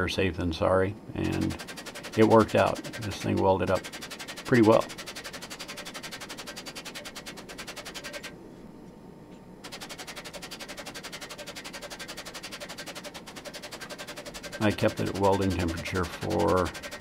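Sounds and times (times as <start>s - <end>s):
power hammer pounding steel: 1.3s - 8.3s, 9.7s - 17.0s.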